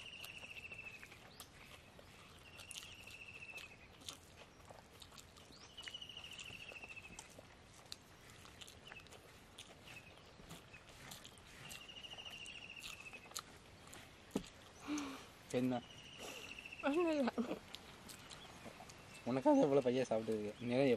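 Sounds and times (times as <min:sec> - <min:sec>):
faint outdoor ambience: 0:00.0 - 0:20.9.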